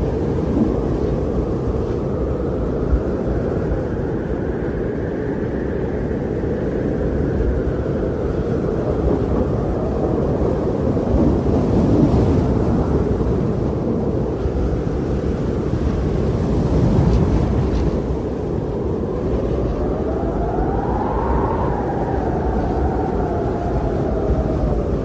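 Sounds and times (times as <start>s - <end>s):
low rumbling wind: 0.0s - 25.0s.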